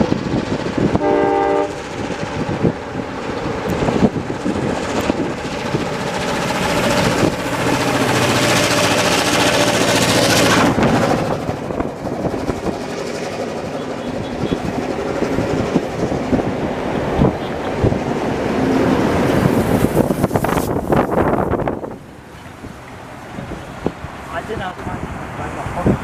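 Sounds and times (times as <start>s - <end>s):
diesel locomotive engine drone: 0.0s - 26.0s
train wheels clattering on rail joints: 1.7s - 24.0s.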